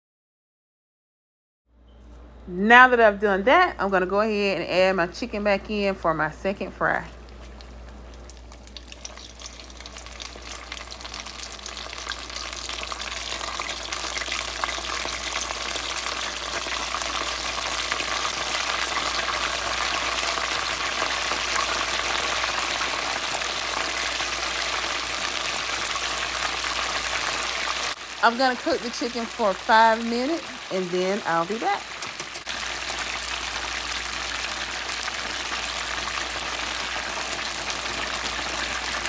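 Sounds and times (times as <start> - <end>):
chicken wings sizzling in hot oil: 7.1 - 39.0.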